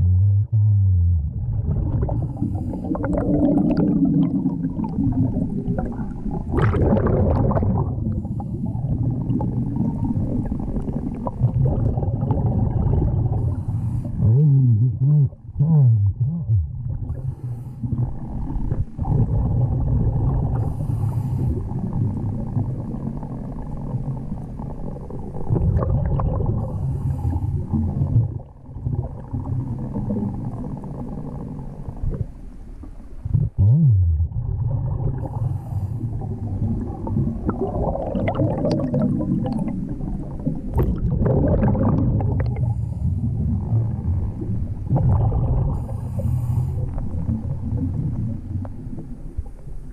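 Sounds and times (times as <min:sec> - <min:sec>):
exhaled bubbles gurgling: 0:00.0 - 0:49.9.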